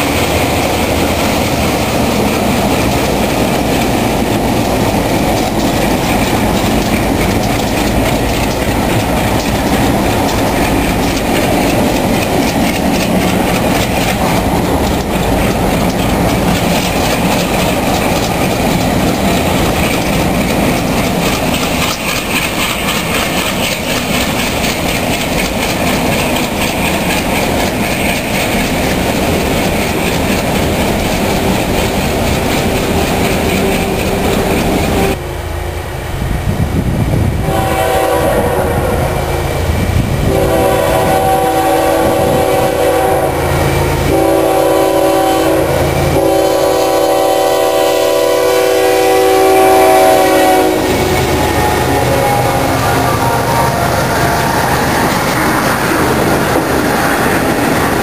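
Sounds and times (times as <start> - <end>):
diesel locomotives working: 0.0 - 58.0
freight cars rumbling and clattering: 0.0 - 58.0.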